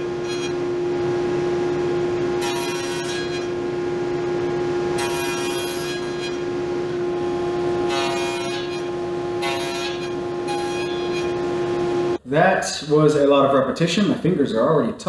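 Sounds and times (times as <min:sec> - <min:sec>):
table saw humming: 0:00.0 - 0:12.2.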